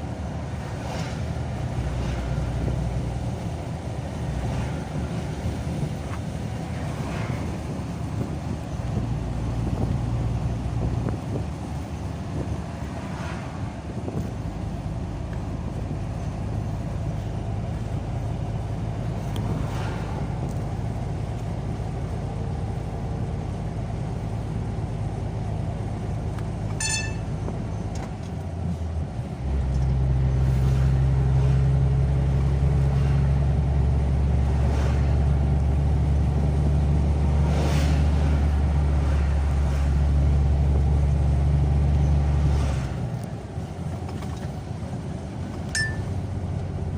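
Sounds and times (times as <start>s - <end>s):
car engine and tyre rumble: 0.0s - 46.9s
vehicles passing: 0.0s - 46.9s.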